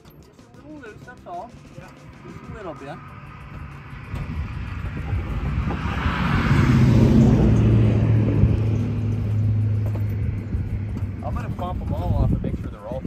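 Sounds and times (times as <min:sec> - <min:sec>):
vehicle passing by: 0:01.5 - 0:13.0.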